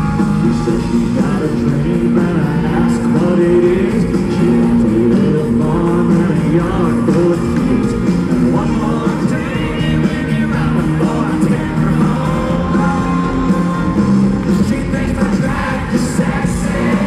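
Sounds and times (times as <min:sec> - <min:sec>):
live country-rock band: 0:00.0 - 0:17.0
man singing into microphone: 0:00.0 - 0:17.0.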